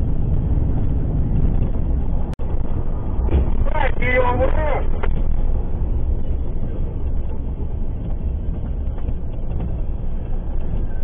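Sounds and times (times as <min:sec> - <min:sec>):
tyres on road: 0:00.0 - 0:11.0
vehicle engine rumble: 0:00.0 - 0:11.0.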